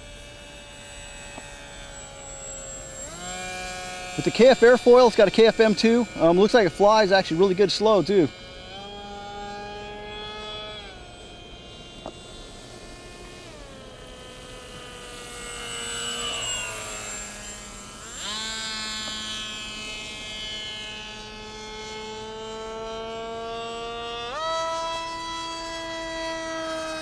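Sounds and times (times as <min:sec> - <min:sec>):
electric motor and propeller whining: 0:00.0 - 0:27.0.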